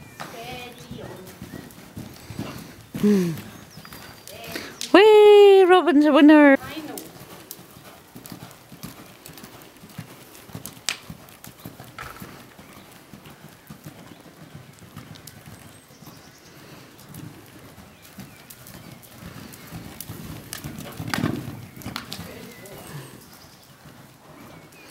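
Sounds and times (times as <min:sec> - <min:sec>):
horse hoofbeats on sand: 0:00.0 - 0:04.8, 0:06.6 - 0:24.9.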